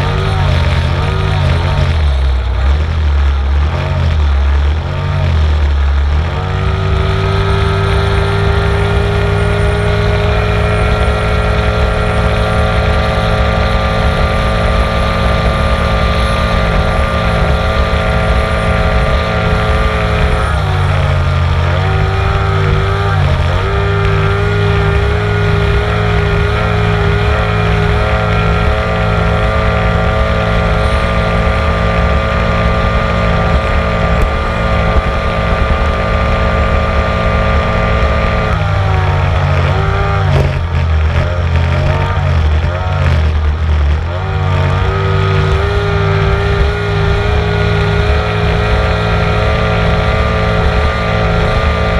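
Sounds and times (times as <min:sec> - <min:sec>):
motorboat engine running hard: 0:00.0 - 0:51.9.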